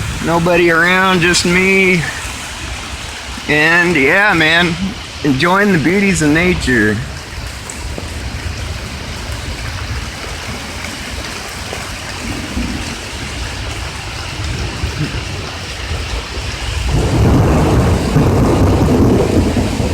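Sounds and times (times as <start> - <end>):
steady rain: 0.0 - 19.9
thunder rumbling: 0.0 - 19.9.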